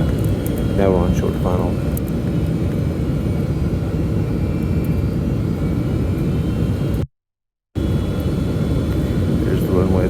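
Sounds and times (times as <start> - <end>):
jet engines roaring in cabin: 0.0 - 7.1, 7.8 - 10.0.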